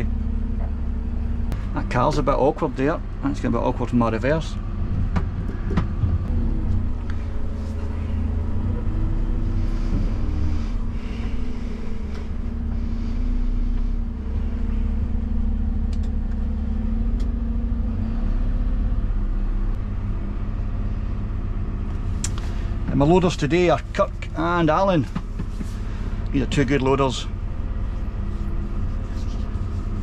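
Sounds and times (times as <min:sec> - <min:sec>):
truck engine rumble: 0:00.0 - 0:30.0.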